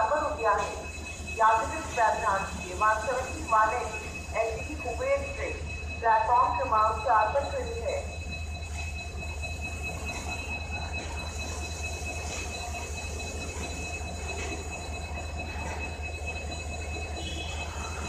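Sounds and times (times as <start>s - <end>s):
diesel locomotive idling: 0.0s - 18.0s.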